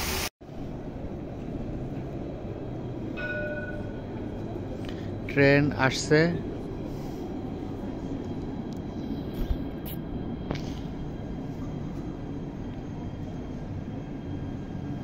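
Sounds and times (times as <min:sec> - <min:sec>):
electric tram rumbling on rails: 0:00.4 - 0:15.0.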